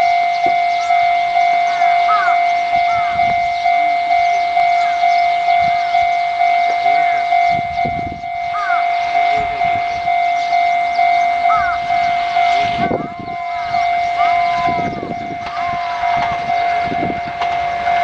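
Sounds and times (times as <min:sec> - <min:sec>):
level crossing alarm ringing: 0:00.0 - 0:18.0.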